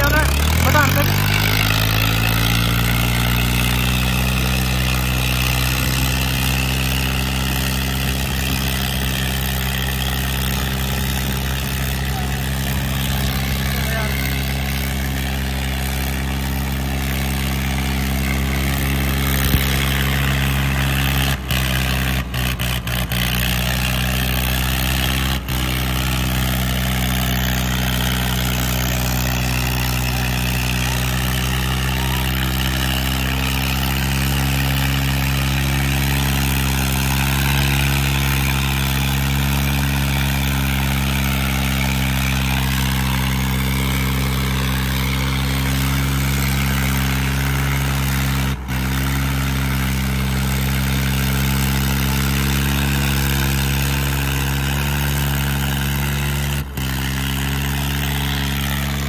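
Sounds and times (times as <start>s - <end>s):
tractor diesel engines under load: 0.0s - 59.0s.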